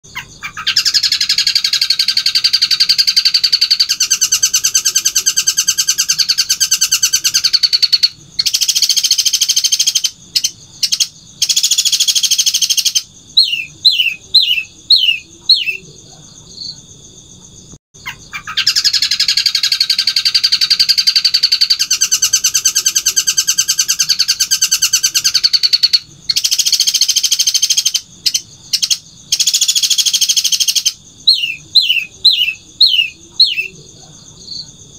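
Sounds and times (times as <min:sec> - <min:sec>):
bird singing fast rattling notes: 0:00.1 - 0:15.8, 0:18.0 - 0:33.7.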